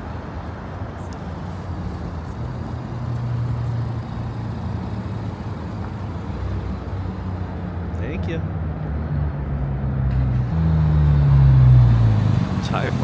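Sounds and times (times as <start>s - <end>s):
car engines rolling past: 0.0s - 13.0s.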